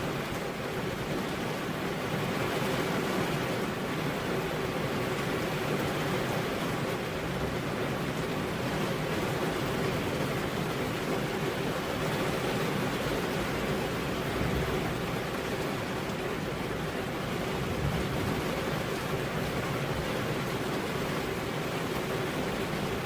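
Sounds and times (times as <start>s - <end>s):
steady rainfall hiss: 0.0s - 23.0s.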